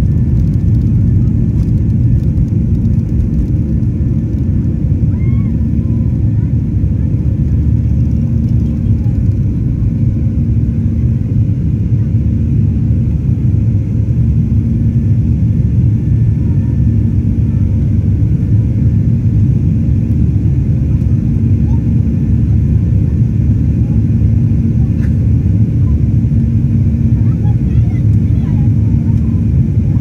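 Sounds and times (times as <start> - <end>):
jet engines at takeoff thrust: 0.0 - 30.0.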